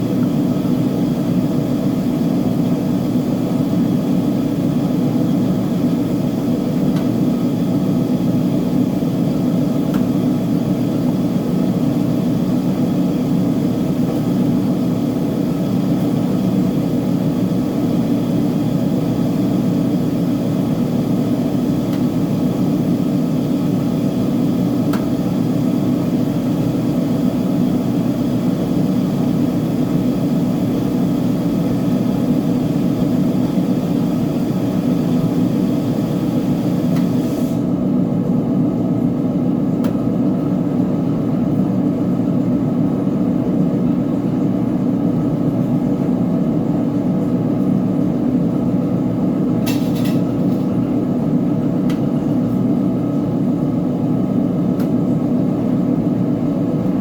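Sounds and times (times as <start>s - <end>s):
washer motor and drum hum: 0.0s - 57.0s.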